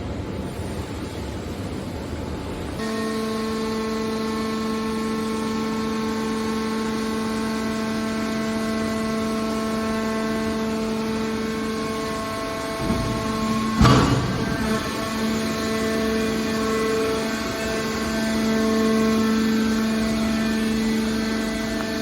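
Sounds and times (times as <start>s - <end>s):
hydraulic pump humming: 2.8s - 22.0s.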